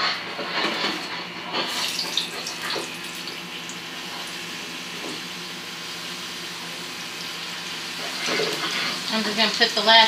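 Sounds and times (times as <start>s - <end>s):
chips sizzling in hot oil: 1.6s - 10.0s.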